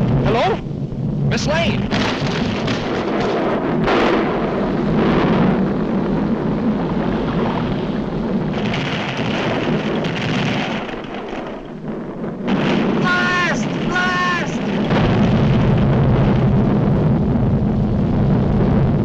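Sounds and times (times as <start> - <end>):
volcano erupting with loud rumbling: 0.0 - 19.0.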